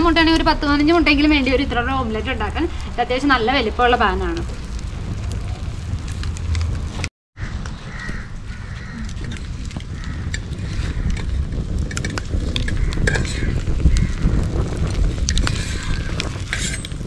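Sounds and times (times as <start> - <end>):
fire rumbling: 0.0 - 17.0
wood crackling and popping: 0.0 - 17.0.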